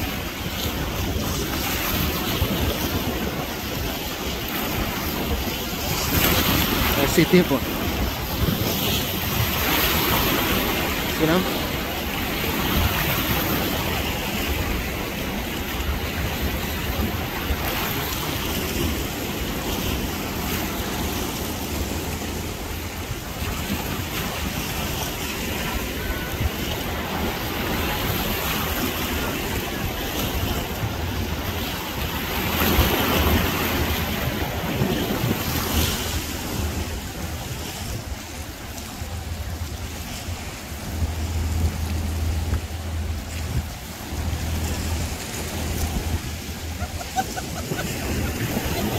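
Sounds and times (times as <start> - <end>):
water splashing against rocks: 0.0 - 48.9
wind buffeting microphone: 0.0 - 48.9.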